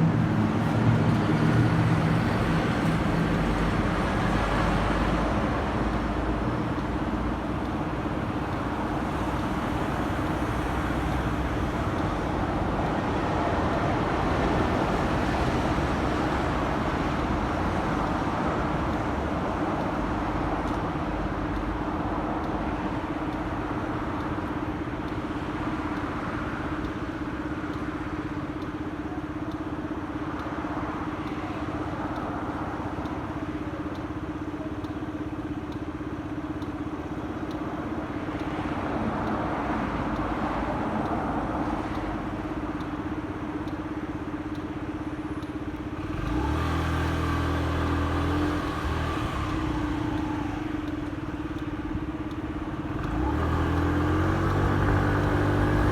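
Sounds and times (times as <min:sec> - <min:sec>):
road noise: 0:00.0 - 0:55.9.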